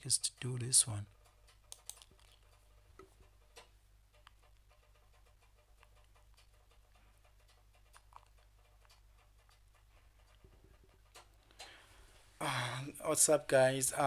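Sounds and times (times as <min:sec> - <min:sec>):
faint clicks: 0:00.4 - 0:11.9.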